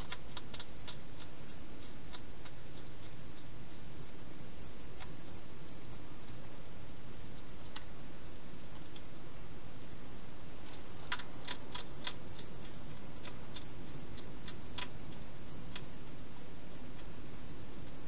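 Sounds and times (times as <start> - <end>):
hedgehog chewing crunchily: 0.0 - 4.2, 4.9 - 18.0
steady low hiss: 0.0 - 18.0.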